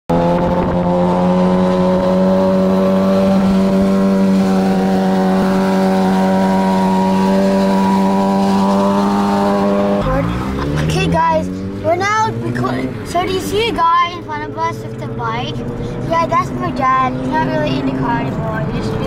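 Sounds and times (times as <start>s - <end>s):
engine running at high revs: 0.1s - 19.0s.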